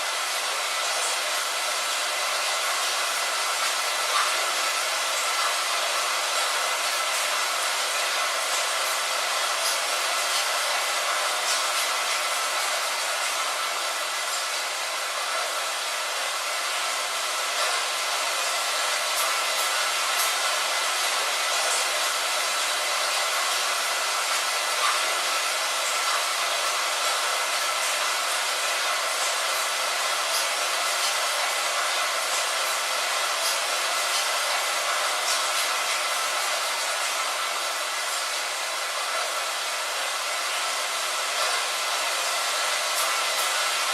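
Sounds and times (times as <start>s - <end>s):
rain hissing on a window: 0.0s - 43.9s.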